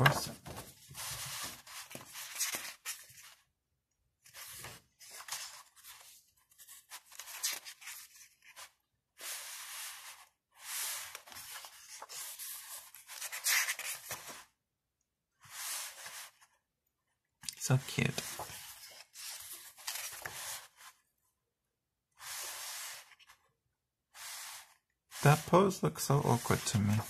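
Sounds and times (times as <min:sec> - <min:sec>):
photobook pages rustling: 0:00.0 - 0:03.5, 0:04.2 - 0:14.6, 0:15.4 - 0:16.6, 0:17.7 - 0:21.1, 0:22.2 - 0:23.5, 0:24.2 - 0:27.0.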